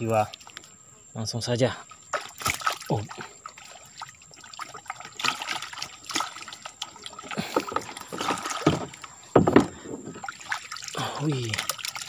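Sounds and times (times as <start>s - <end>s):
water sloshing and splashing: 0.0s - 0.8s, 1.6s - 12.0s
water draining off trap: 2.0s - 12.0s.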